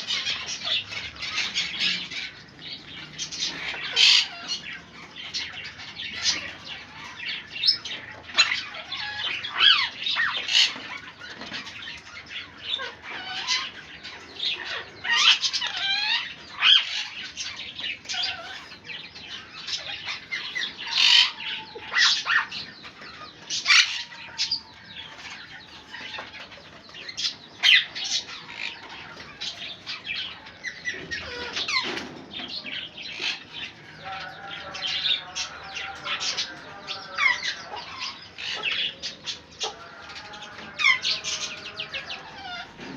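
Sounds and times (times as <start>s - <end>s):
parrots squawking and chirping: 0.0s - 42.9s.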